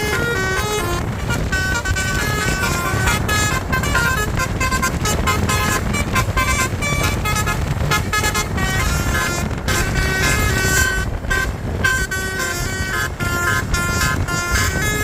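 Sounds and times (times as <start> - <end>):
bus horn playing a melody: 0.0 - 15.0
steady low rumble: 0.0 - 15.0.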